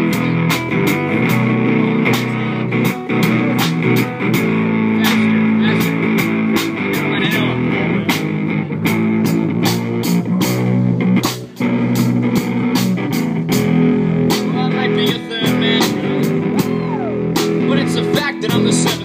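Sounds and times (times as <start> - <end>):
live band playing guitar: 0.0 - 19.0.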